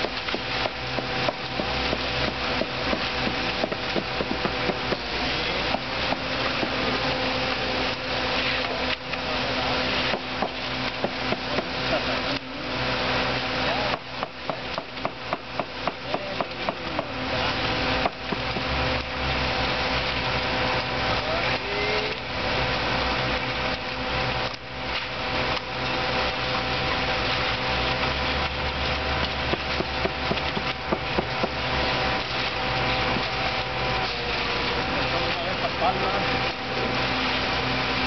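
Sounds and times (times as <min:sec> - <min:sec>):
construction machinery whining: 0:00.0 - 0:38.0.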